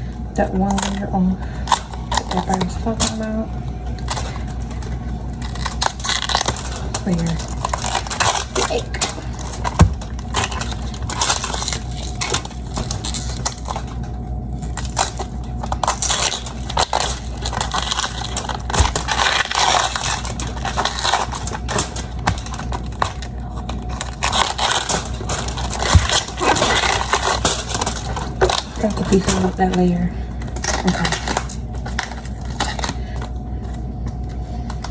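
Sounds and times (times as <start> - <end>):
cabbage leaves crunching and snapping: 1.6 - 33.3.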